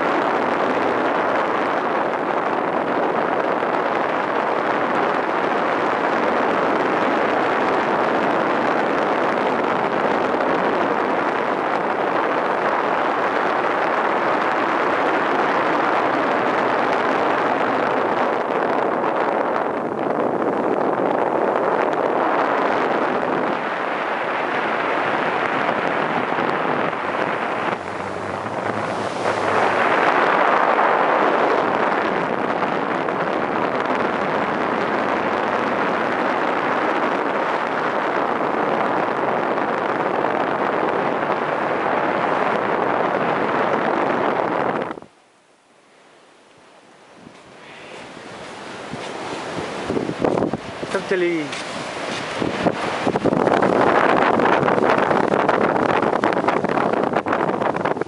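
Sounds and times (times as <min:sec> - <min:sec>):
wind rushing: 0:00.0 - 0:45.1, 0:47.0 - 0:58.0
choppy sea water: 0:00.0 - 0:58.0.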